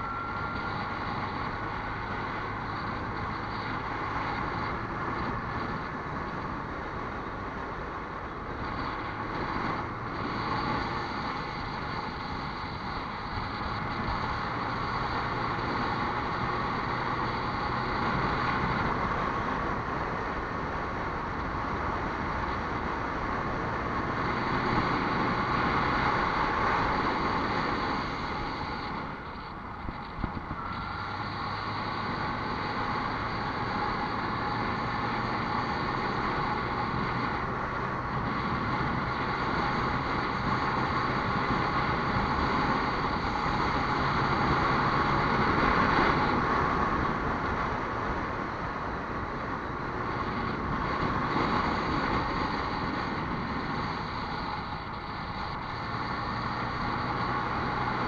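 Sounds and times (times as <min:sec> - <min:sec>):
motor vehicle running: 0:00.0 - 0:58.0.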